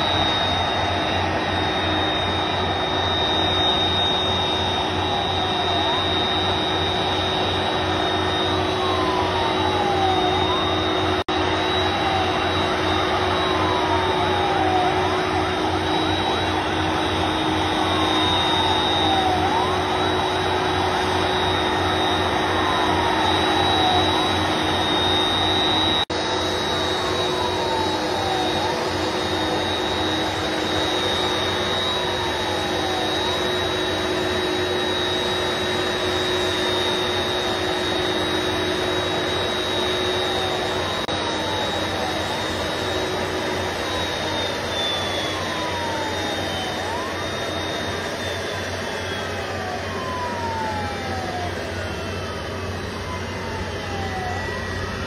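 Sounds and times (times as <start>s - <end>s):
high steady tone: 0.0s - 51.4s
jet engines whining: 0.0s - 55.0s.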